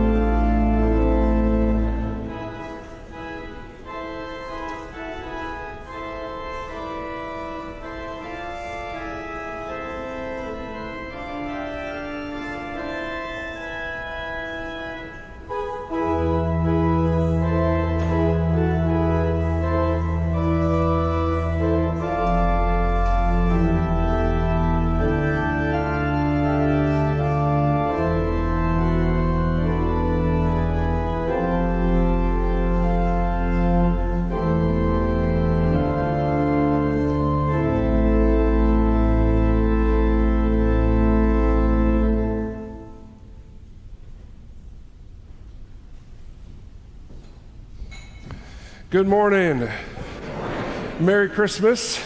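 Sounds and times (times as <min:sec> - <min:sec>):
church organ playing chords: 0:00.0 - 0:43.9, 0:47.9 - 0:52.0.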